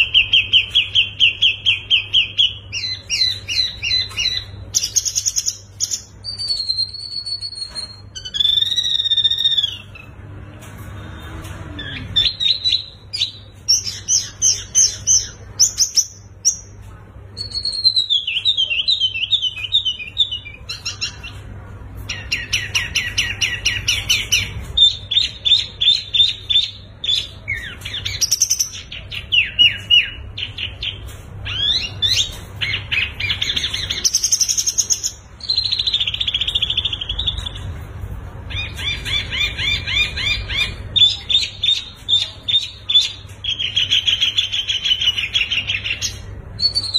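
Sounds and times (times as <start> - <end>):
songbirds singing: 0.0 - 37.8, 38.4 - 46.9.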